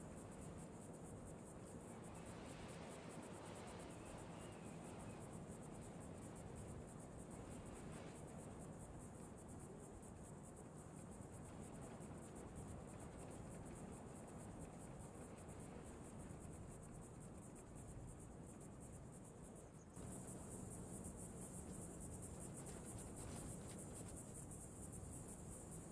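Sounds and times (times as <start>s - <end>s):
crickets chirring: 0.0s - 25.9s
low background hiss: 0.0s - 25.9s.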